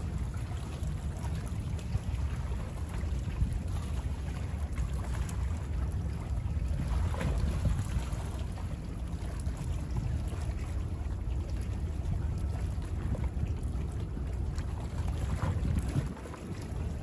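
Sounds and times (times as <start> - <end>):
small waves lapping and splashing: 0.0 - 17.0
wind rumble on microphone: 0.0 - 17.0.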